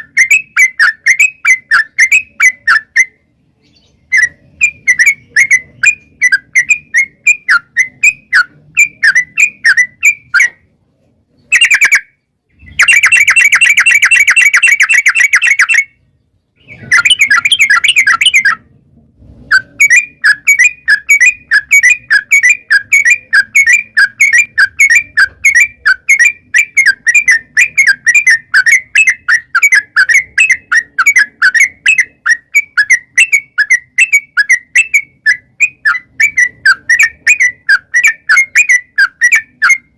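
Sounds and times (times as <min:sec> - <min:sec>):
bird singing whistled chirps: 0:00.0 - 0:10.6, 0:11.5 - 0:16.0, 0:16.6 - 0:18.6, 0:19.5 - 0:39.9.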